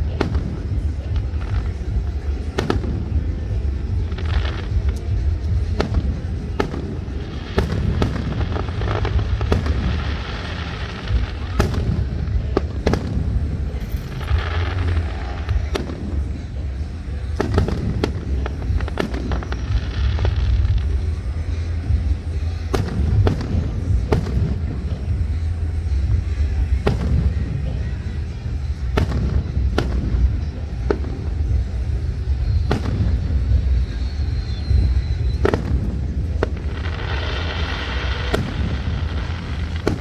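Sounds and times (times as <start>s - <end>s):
fireworks bangs and cracks: 0.0s - 40.0s
steady low rumble: 0.0s - 40.0s.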